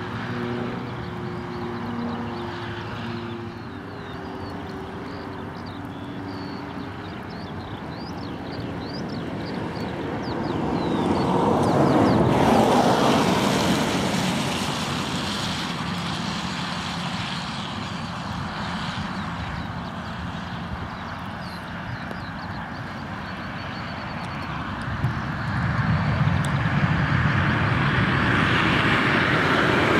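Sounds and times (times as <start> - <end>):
jet engines rushing: 0.0 - 29.9.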